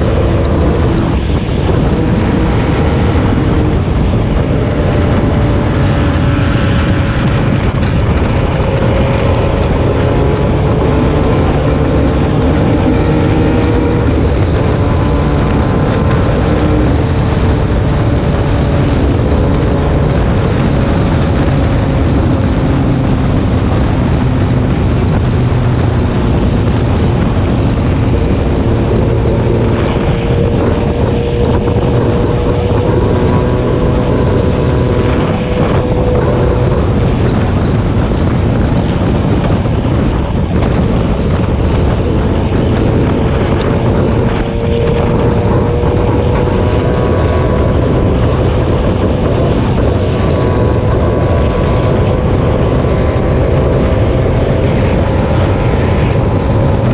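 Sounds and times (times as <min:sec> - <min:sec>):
vehicle engine running: 0:00.0 - 0:56.9
wind noise on microphone: 0:00.0 - 0:56.9.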